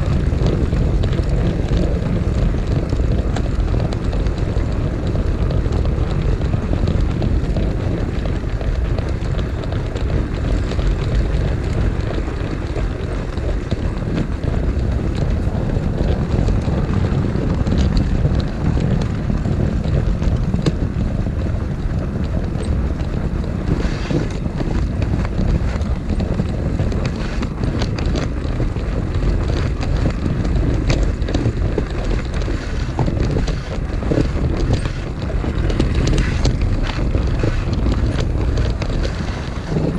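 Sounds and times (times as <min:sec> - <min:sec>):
model train rumbling on track: 0:00.0 - 0:39.9.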